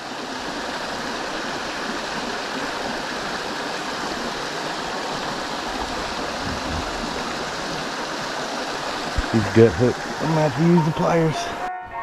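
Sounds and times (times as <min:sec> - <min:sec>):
river water rushing: 0:00.0 - 0:11.7.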